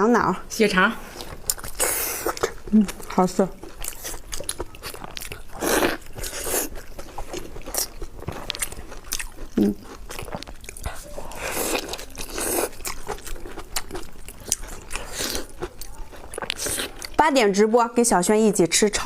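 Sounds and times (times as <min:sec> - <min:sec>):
chewing and lip-smacking: 0:01.1 - 0:17.2.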